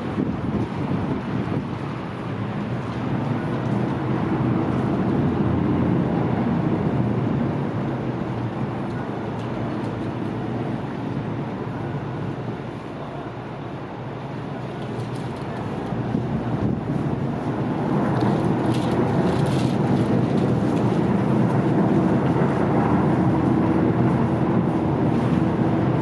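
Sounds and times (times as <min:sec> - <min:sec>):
wind buffeting microphone: 0:00.0 - 0:12.8, 0:14.3 - 0:26.0
ferry engines droning: 0:00.0 - 0:26.0.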